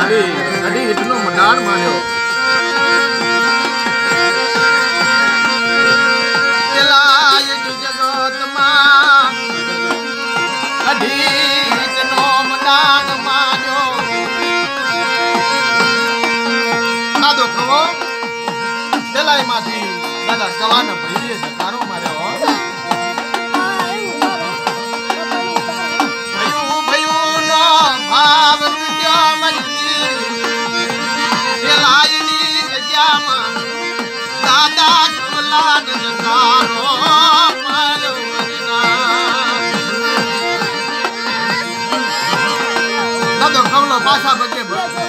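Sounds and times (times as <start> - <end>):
hand drum: 0.0 - 45.0
harmonium drone: 0.0 - 45.0
man singing devotional song: 0.0 - 45.0.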